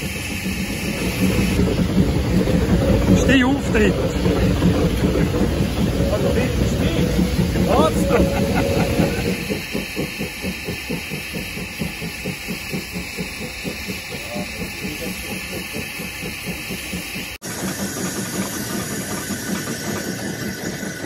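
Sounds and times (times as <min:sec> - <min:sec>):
locomotive running noise: 0:00.0 - 0:21.0
steam hissing: 0:00.0 - 0:21.0
steam locomotive exhaust beat: 0:00.0 - 0:21.0.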